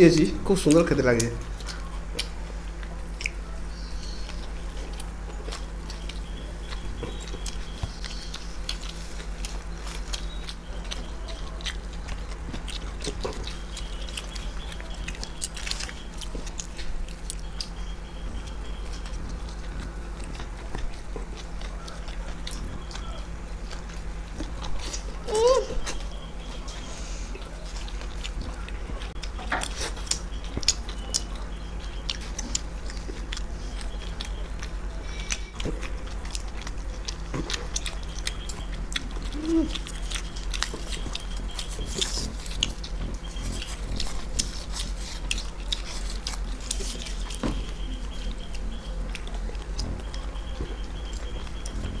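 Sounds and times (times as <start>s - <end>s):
people chewing and biting food: 0.0s - 52.0s.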